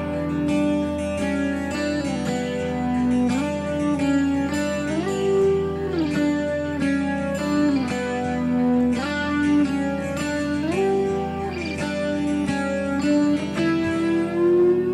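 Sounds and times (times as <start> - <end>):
gliding guitar music: 0.0 - 14.9.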